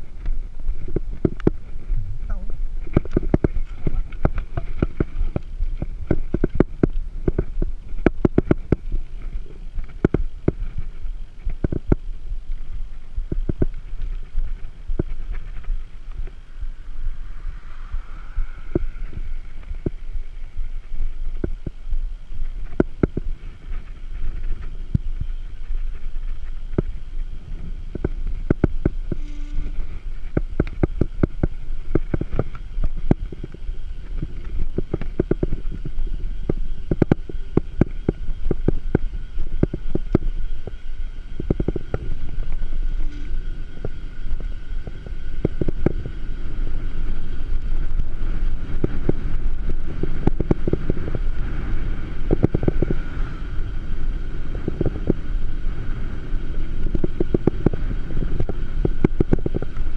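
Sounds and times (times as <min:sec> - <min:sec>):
wind buffeting microphone: 0:00.0 - 0:59.9
bike clicks and rattles: 0:02.7 - 0:17.3, 0:18.6 - 0:59.9.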